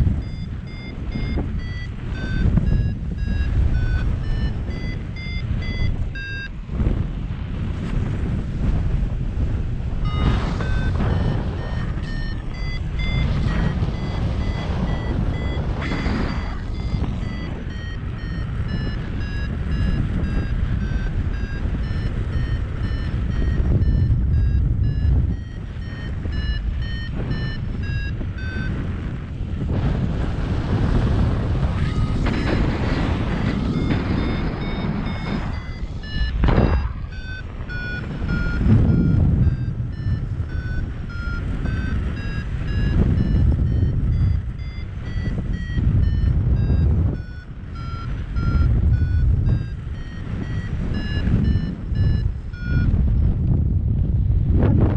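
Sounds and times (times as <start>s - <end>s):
variometer beeping: 0.0s - 7.0s, 7.9s - 53.6s
wind on microphone: 0.0s - 54.9s.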